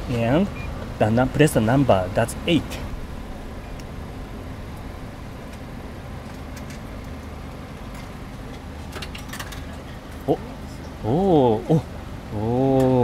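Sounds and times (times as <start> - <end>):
vending machine humming: 0.0 - 13.0.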